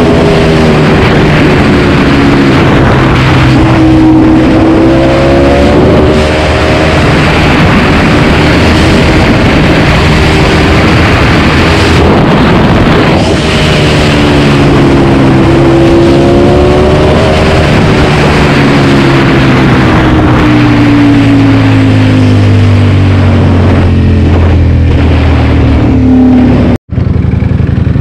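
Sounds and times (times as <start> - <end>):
heavy wind noise: 0.0 - 28.0
motorcycle engine revving: 0.0 - 28.0.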